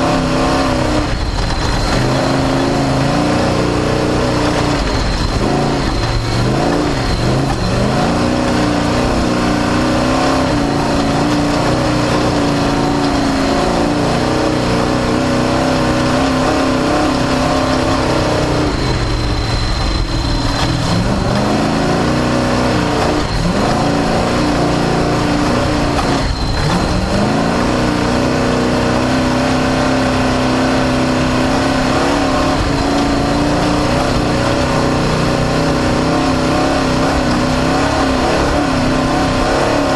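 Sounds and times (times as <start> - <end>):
constant broad noise: 0.0 - 39.9
race car engine revving: 0.0 - 39.9.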